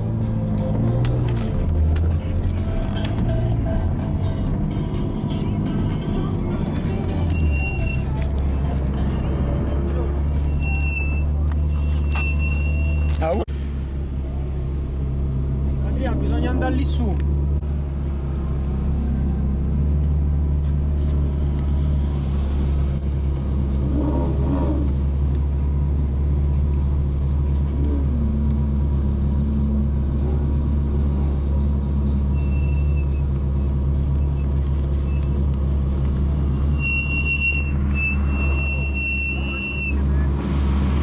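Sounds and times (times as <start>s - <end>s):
car engine running: 0.0s - 38.6s.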